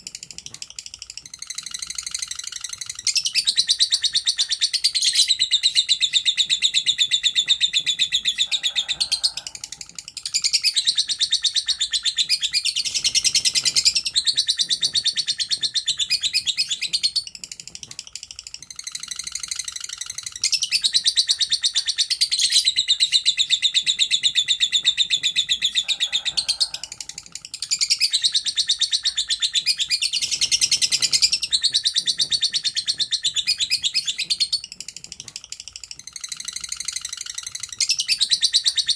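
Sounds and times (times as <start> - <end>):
lovebird chattering song: 0.2 - 17.4, 18.1 - 38.9.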